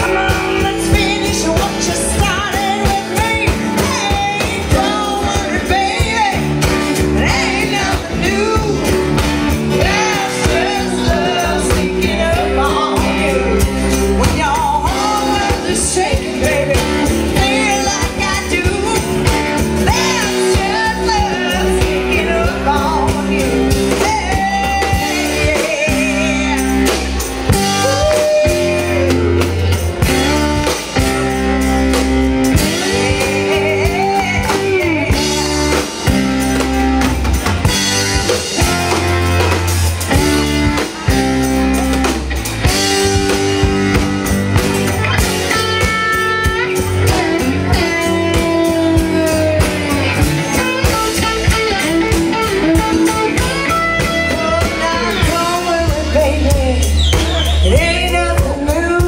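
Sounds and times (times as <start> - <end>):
person singing: 0.0 - 31.4, 32.4 - 36.8, 44.9 - 59.0
bass: 0.0 - 59.0
drum kit: 0.0 - 59.0
guitar: 0.0 - 59.0.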